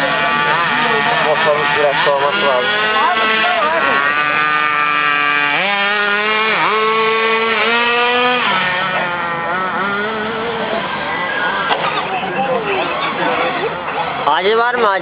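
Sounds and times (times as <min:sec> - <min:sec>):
rc car engine whining: 0:00.0 - 0:14.9.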